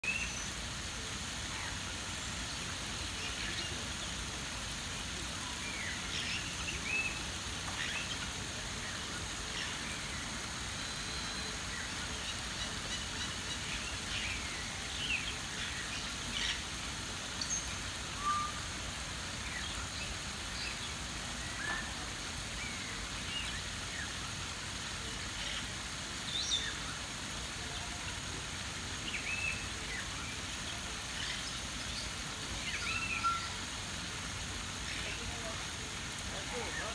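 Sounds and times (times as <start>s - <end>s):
background hiss: 0.0s - 36.9s.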